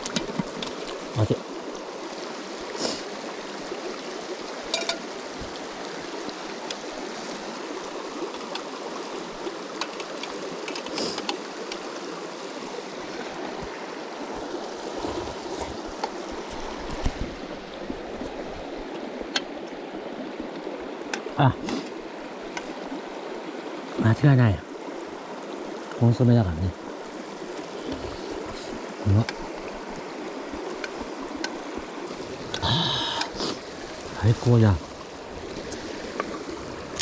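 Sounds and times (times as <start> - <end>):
river flowing over stones: 0.0 - 37.0.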